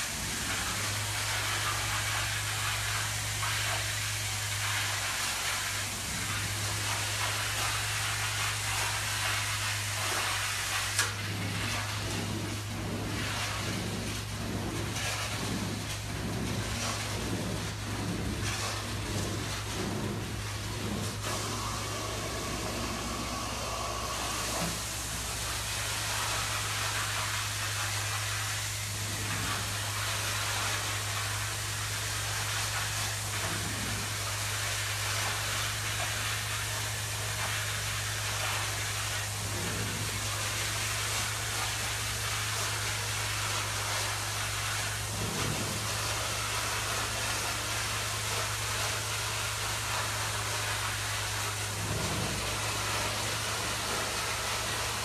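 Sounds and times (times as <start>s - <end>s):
low machine hum: 0.0s - 55.0s
suction hiss through hose: 0.0s - 55.0s.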